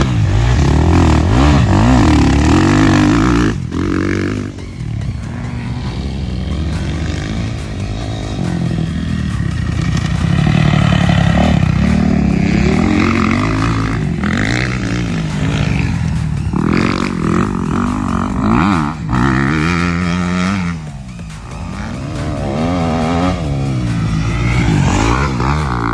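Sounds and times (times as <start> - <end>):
dirt bike engines revving: 0.0 - 25.9.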